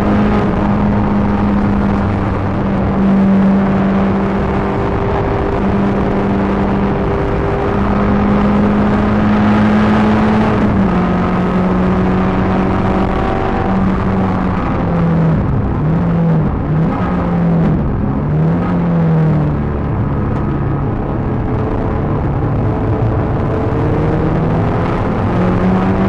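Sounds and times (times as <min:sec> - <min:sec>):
car engine at high revs: 0:00.0 - 0:26.0
road and wind noise: 0:00.0 - 0:26.0.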